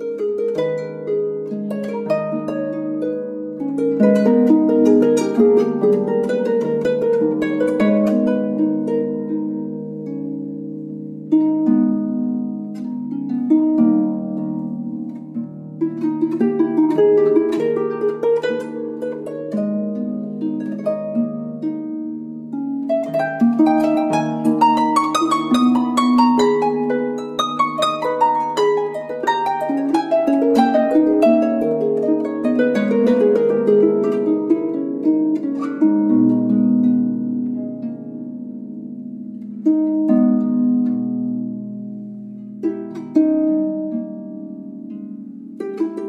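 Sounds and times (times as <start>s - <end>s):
plucked harp-like music: 0.0s - 46.0s.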